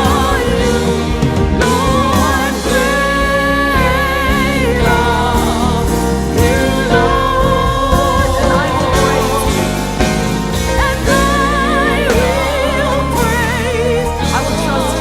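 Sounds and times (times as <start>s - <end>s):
live band playing: 0.0s - 15.0s
steady bass: 0.0s - 15.0s.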